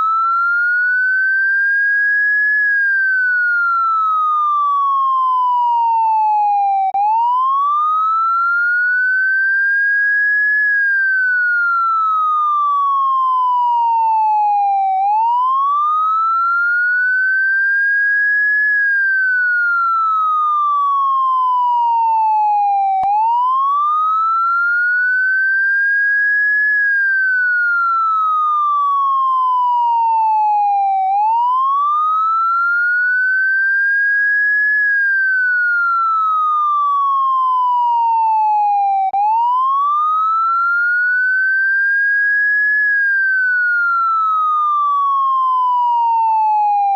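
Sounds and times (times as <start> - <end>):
electronic police siren wailing: 0.0 - 46.9.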